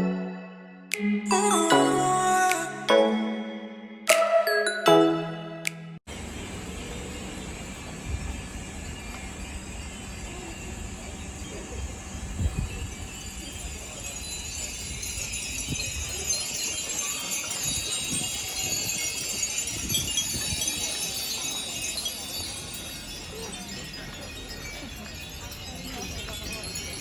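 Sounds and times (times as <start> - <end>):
wind chimes ringing: 1.3 - 5.7, 8.0 - 27.0.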